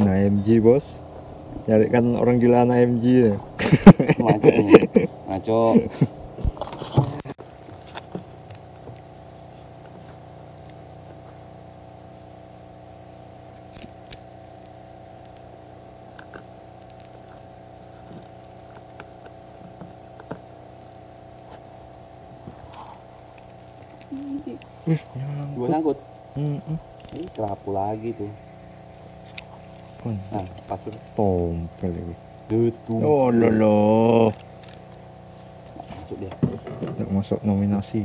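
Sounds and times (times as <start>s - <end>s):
insects shrilling: 0.0s - 38.0s.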